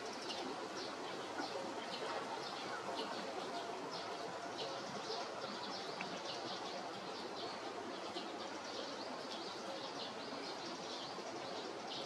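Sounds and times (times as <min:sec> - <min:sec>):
songbirds chirping: 0:00.0 - 0:12.0
steady background hiss: 0:00.0 - 0:12.0.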